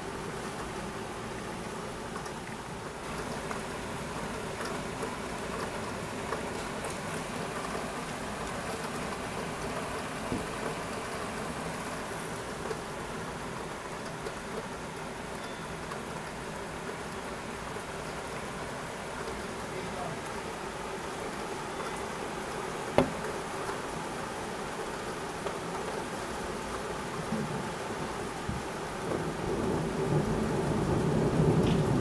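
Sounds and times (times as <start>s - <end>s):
steady rain hiss: 0.0s - 32.0s
raindrop ticks: 0.5s - 17.3s, 18.0s - 20.4s, 24.8s - 32.0s.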